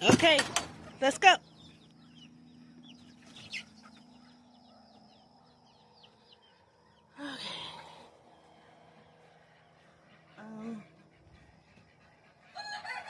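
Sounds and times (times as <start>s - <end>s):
chickens chirping: 0.6s - 13.0s.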